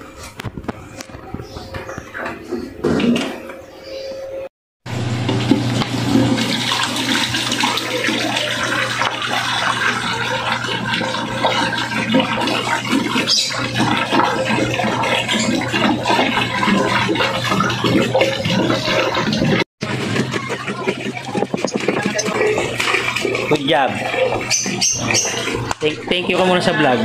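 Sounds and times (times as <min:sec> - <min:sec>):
water pouring into glass tank: 0:04.9 - 0:27.0.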